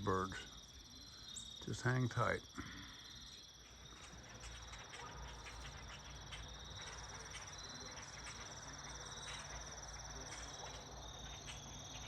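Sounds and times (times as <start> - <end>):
crickets trilling: 0.0 - 12.0
faint short insect chirps: 0.1 - 12.0.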